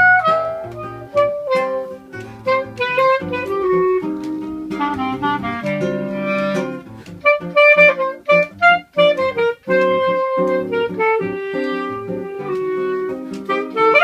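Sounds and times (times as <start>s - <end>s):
clarinet melody: 0.0s - 14.0s
guitar accompaniment: 0.0s - 14.0s.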